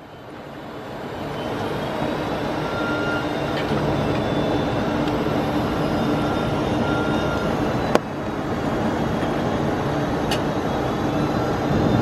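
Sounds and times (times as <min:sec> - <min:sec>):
engine and airflow rush: 0:00.0 - 0:12.0.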